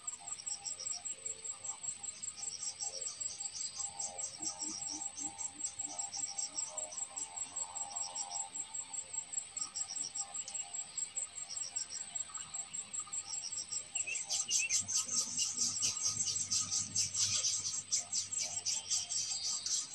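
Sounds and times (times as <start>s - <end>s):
insects chirping: 0.0s - 19.9s.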